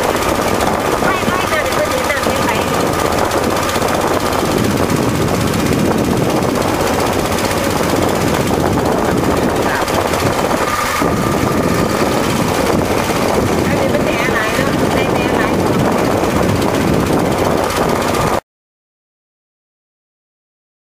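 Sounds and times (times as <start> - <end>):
motorboat engine running: 0.0 - 18.4.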